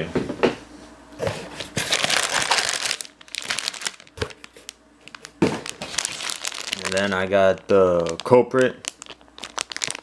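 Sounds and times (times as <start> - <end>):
plastic packet crinkling: 1.8 - 10.0.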